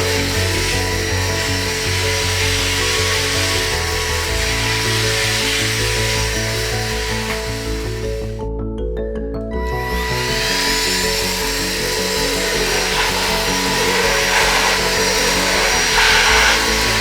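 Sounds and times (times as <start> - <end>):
cordless vacuum cleaner whining: 0.0 - 8.4, 9.6 - 17.0
background music: 0.0 - 17.0.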